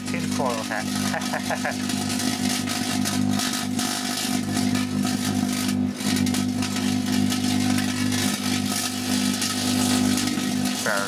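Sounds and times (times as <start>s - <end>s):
foil arcing crackling: 0.0s - 11.0s
microwave oven hum: 0.0s - 11.0s.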